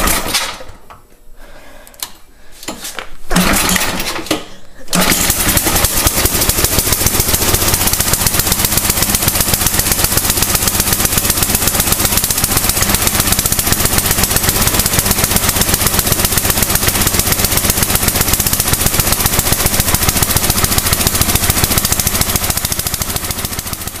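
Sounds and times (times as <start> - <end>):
snowblower engine running: 0.0 - 0.4, 3.3 - 4.2, 4.9 - 24.0.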